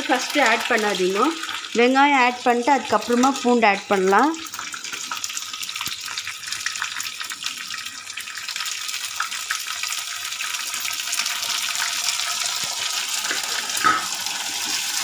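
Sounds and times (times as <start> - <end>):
onions and garlic sizzling in oil: 0.0 - 15.0.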